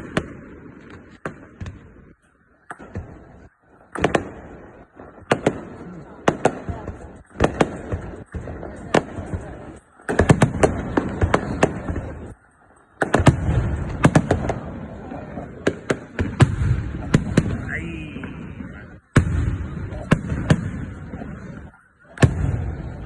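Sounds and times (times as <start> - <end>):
fireworks bangs: 0.0 - 23.0
fireworks rumble: 0.0 - 23.0.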